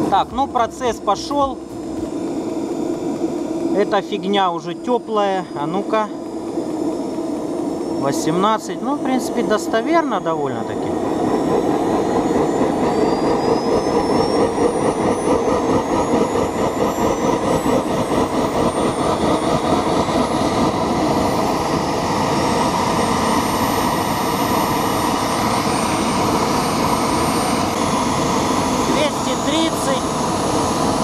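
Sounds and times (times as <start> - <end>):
small jet engine roaring: 0.0 - 31.0.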